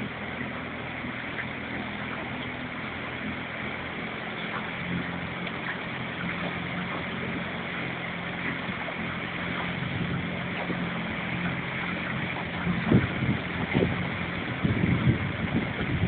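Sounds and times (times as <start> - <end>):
motorboat engine running: 0.0 - 16.0
water noise: 0.0 - 16.0
wind: 0.0 - 16.0.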